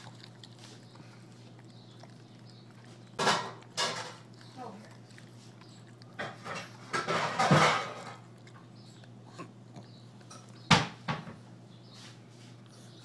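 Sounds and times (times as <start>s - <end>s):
dog crunching carrot: 0.0s - 11.6s.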